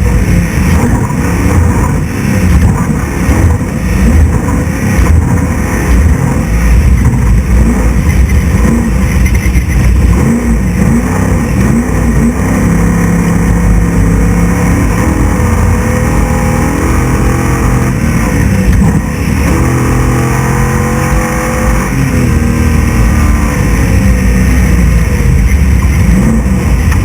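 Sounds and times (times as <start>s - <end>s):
constant rushing noise: 0.0s - 27.0s
truck engine revving: 0.0s - 27.0s.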